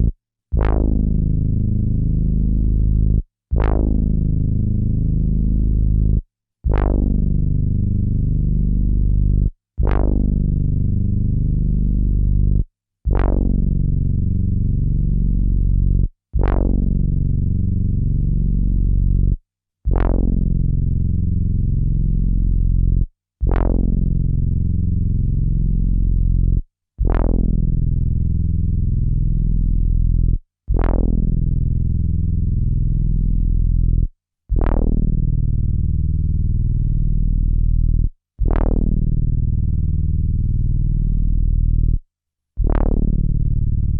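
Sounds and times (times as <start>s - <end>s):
deep synthesizer bass note: 0.0s - 42.0s, 42.6s - 43.9s.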